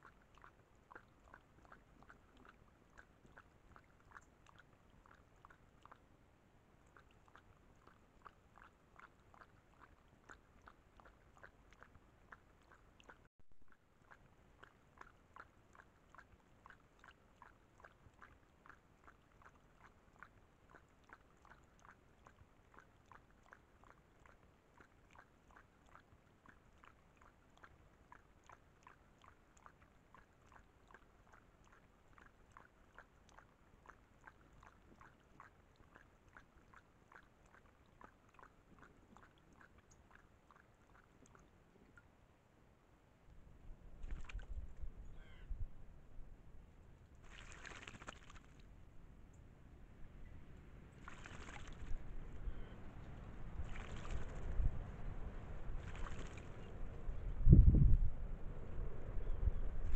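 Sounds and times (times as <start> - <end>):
animal lapping water: 0.0 - 42.5, 43.2 - 45.4, 47.0 - 48.9, 50.9 - 57.2.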